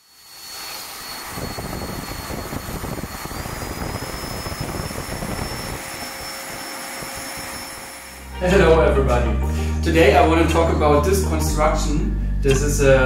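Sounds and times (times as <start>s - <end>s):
electric fan air rush and whine: 0.0s - 11.3s.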